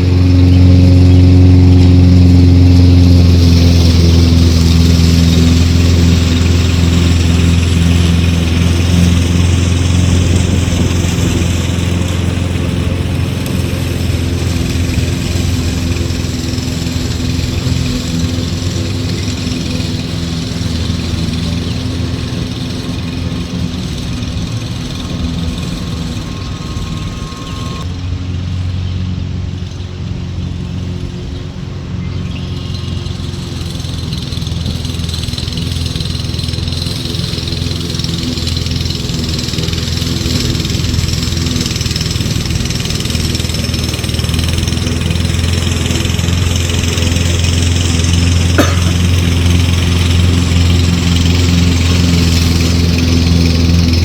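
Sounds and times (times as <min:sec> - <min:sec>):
lawnmower engine mowing: 0:00.0 - 0:54.0.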